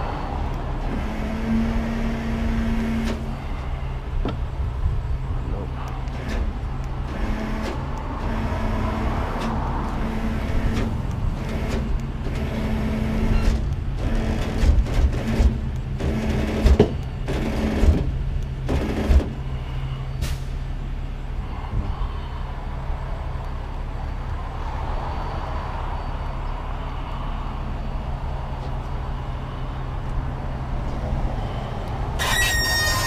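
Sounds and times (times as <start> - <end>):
truck engine rumbling: 0.0 - 33.0.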